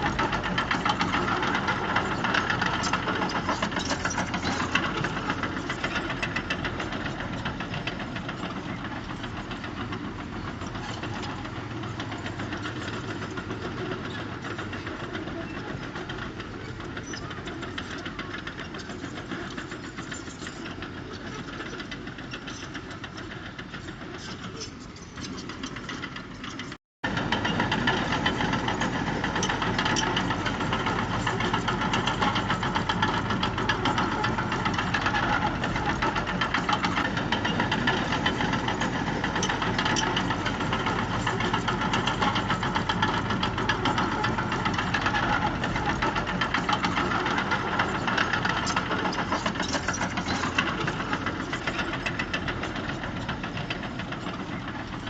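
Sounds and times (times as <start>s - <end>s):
diesel engine clattering: 0.0s - 55.0s.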